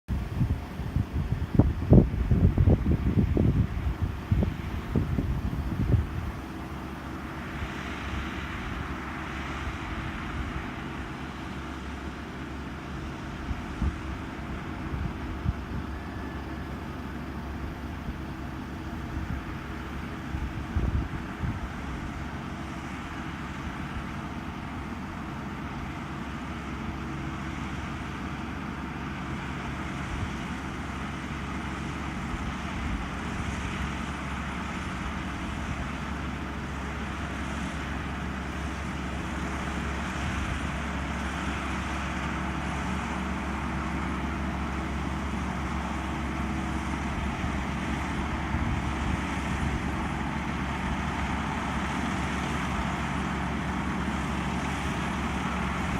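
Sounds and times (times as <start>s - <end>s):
combine harvester engine hum: 0.1s - 55.9s.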